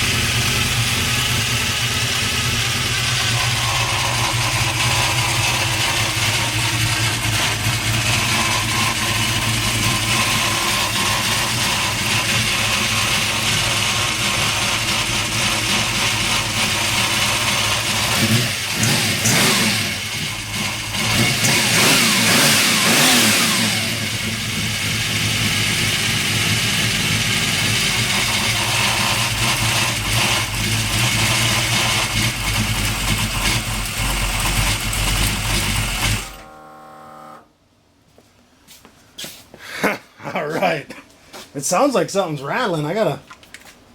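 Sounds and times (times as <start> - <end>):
engine idling and revving: 0.0 - 37.5.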